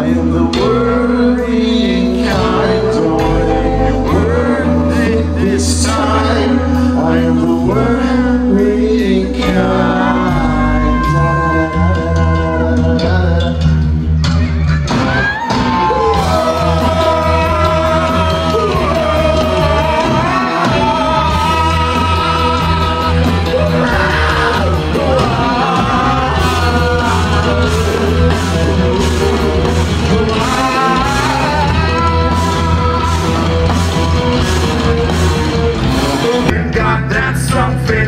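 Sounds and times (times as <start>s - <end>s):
person singing: 0.0s - 14.6s, 15.7s - 35.2s, 36.2s - 38.0s
bass guitar: 0.0s - 38.0s
drums: 0.0s - 38.0s
electric guitars: 0.0s - 38.0s.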